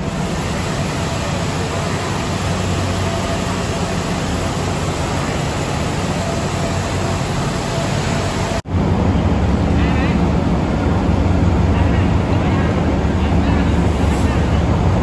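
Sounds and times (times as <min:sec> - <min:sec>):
diesel railcar engine idling: 0:00.0 - 0:15.0
station noise: 0:00.0 - 0:15.0.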